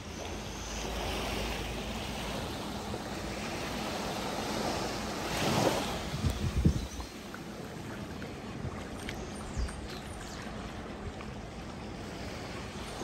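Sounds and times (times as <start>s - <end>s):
sea surf washing onto beach: 0.0s - 13.0s.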